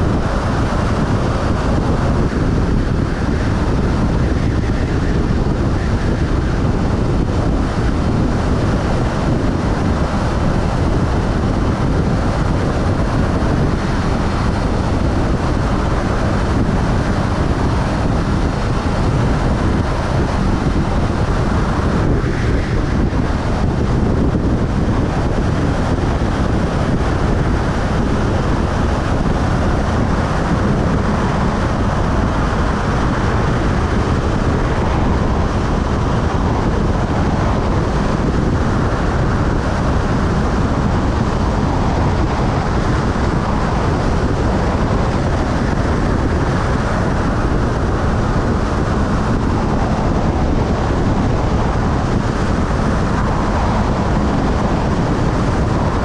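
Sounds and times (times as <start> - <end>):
motorcycle engine drone: 0.0 - 56.0
wind rush over microphone: 0.0 - 56.0.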